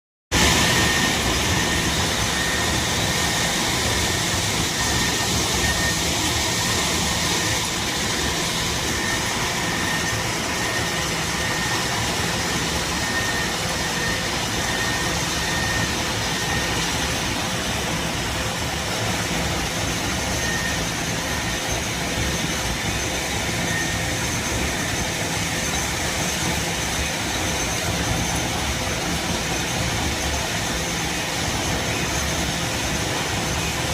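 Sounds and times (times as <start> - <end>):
thin high whine: 0.4 - 33.9.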